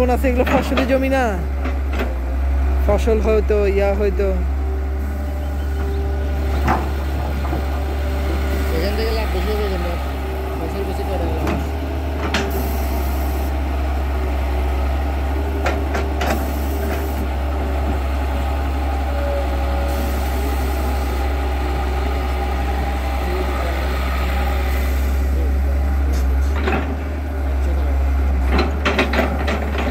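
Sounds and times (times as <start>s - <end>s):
diesel engine humming: 0.0s - 29.9s.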